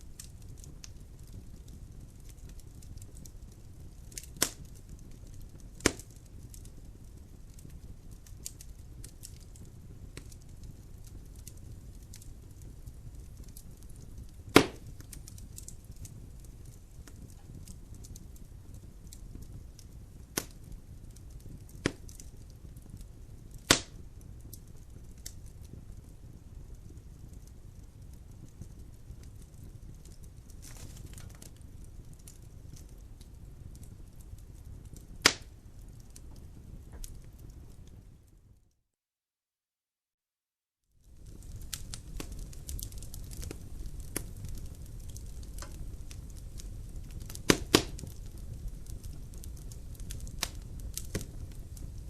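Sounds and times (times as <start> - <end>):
fireplace fire rumble: 0.0 - 38.7, 40.9 - 52.0
fire crackles and pops: 0.0 - 38.8, 40.9 - 52.0.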